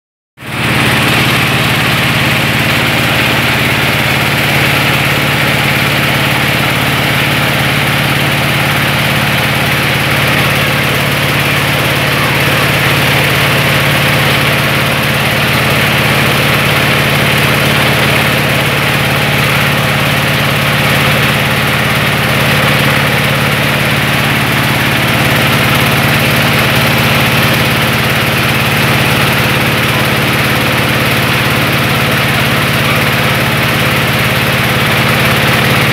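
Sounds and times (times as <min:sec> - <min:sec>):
rice-milling machine engine hum: 0:00.4 - 0:35.9.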